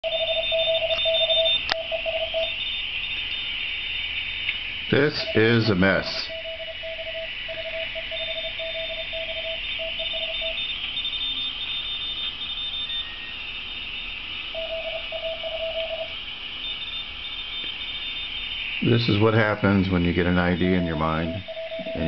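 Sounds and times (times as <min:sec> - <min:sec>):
high-pitched morse code tone: 0:00.0 - 0:04.0, 0:04.9 - 0:22.0
mid-pitched morse code tone: 0:00.0 - 0:22.0
receiver hiss: 0:00.0 - 0:22.0.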